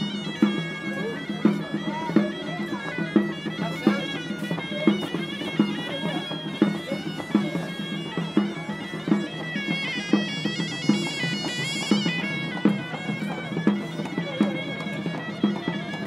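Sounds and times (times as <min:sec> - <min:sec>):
drum beating: 0:00.0 - 0:16.0
reed pipe playing nasal melody: 0:00.0 - 0:16.0.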